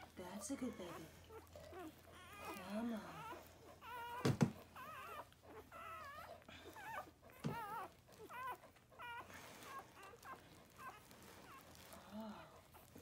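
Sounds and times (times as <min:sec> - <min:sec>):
dog whimpering: 0:00.0 - 0:13.0.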